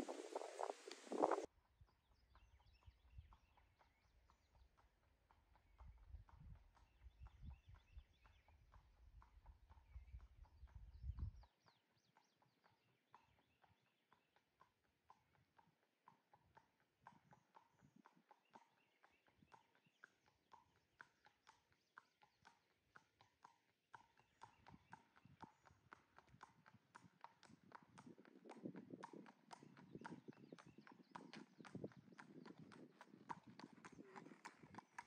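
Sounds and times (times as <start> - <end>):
horse hooves on asphalt: 0.0 - 1.5, 2.2 - 35.0.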